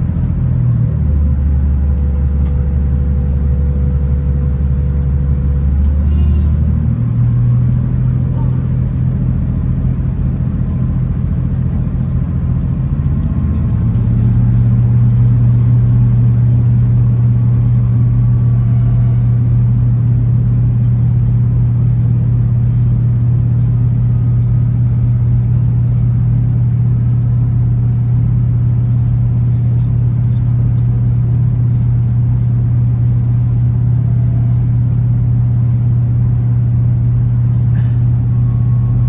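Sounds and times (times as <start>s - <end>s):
vehicle drone and rumble: 0.0s - 39.0s.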